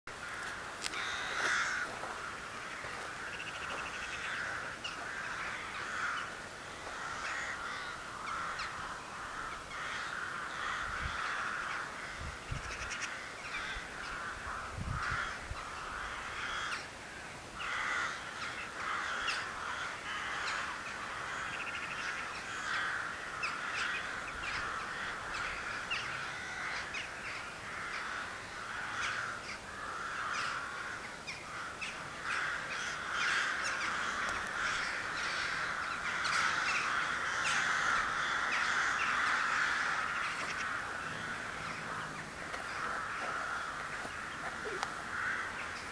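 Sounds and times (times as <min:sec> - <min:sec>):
flock of birds calling: 0:00.1 - 0:45.9.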